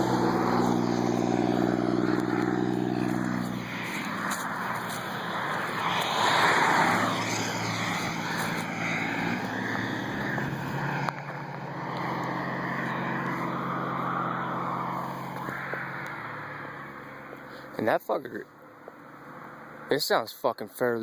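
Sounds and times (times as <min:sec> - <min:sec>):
car driving past: 0:00.0 - 0:17.8.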